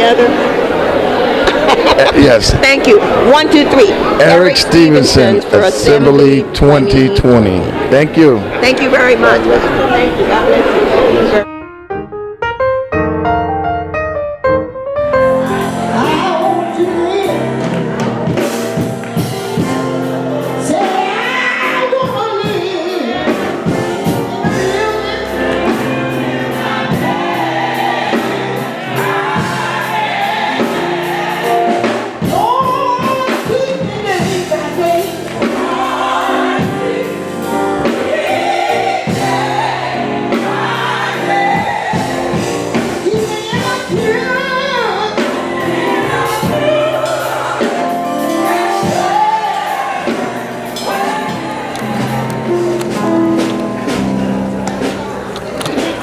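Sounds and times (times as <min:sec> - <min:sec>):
choir singing gospel song: 0:00.0 - 0:11.4, 0:15.2 - 0:56.0
sustained instrumental accompaniment: 0:00.0 - 0:56.0.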